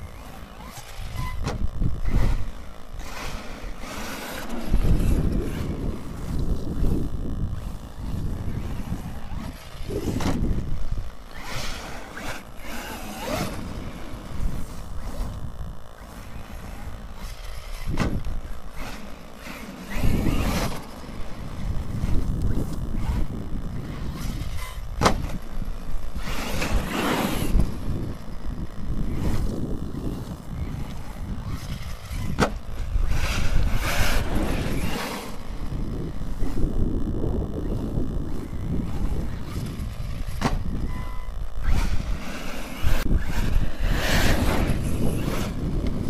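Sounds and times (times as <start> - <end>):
toy truck motor on gravel: 0.0 - 46.0
wind buffeting microphone: 0.0 - 46.0.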